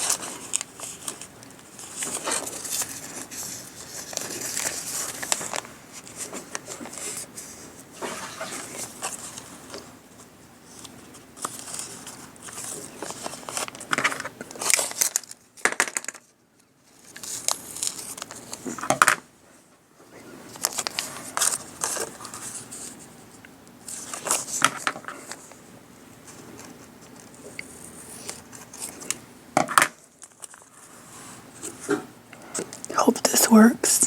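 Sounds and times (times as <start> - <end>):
cellophane and paper rustling: 0.0 - 18.9, 20.5 - 23.2, 23.9 - 25.6, 26.2 - 29.2, 29.9 - 31.9.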